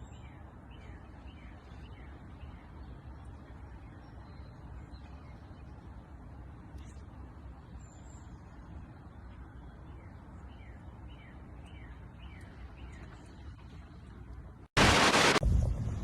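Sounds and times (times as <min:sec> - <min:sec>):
faint outdoor rumble: 0:00.0 - 0:16.0.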